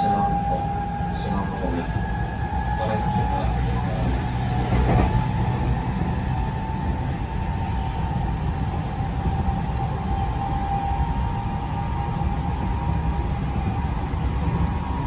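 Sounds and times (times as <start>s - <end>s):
thin whine of train: 0.0s - 15.0s
train wheels rumbling: 0.0s - 15.0s.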